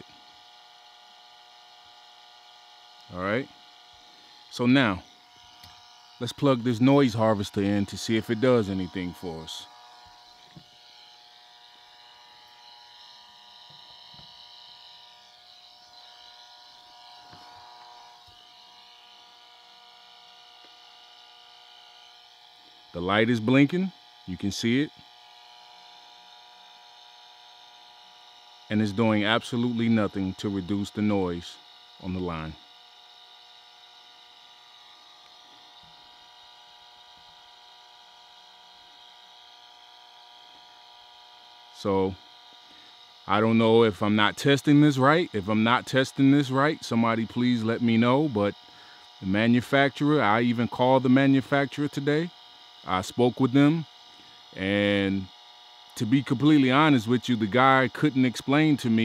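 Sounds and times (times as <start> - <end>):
meter speaker buzz with hiss: 0.0 - 59.0.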